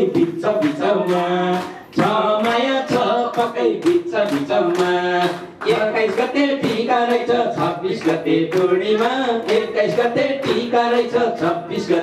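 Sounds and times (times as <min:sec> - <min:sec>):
audience clapping along: 0:00.0 - 0:12.0
man singing into a microphone: 0:00.0 - 0:12.0.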